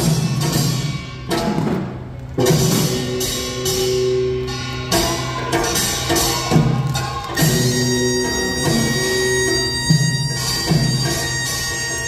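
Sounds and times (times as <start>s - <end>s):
drums: 0.0s - 12.0s
traditional dance music: 0.0s - 12.0s.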